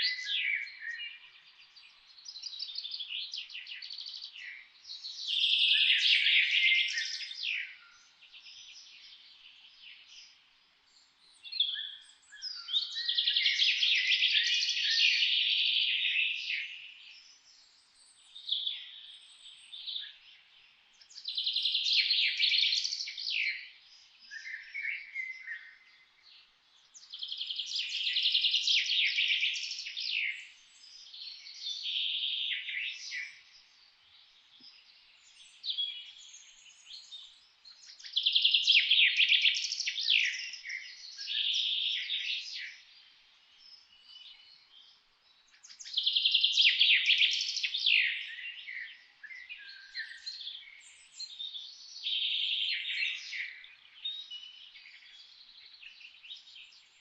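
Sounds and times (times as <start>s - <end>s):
quiet bird chirps: 0.0s - 57.0s.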